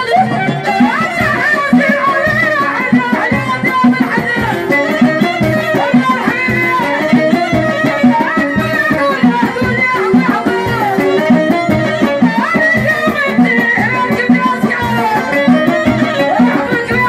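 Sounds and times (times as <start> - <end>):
accompanying instruments: 0.0 - 17.0
steady drumbeat: 0.0 - 17.0
woman singing into microphone: 0.0 - 17.0.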